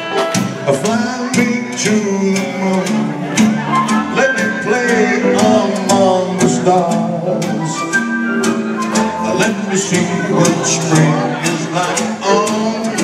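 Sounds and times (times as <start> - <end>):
drum kit steady beat: 0.0 - 13.0
live band playing dance music: 0.0 - 13.0.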